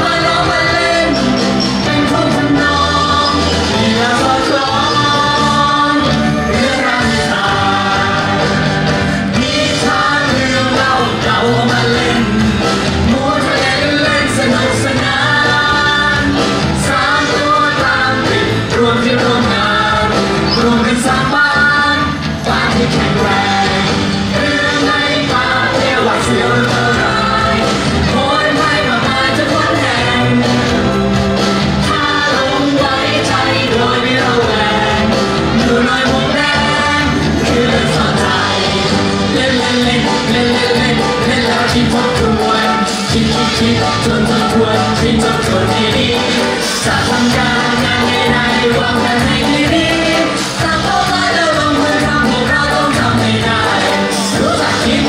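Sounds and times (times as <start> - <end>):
person singing: 0.0 - 55.0.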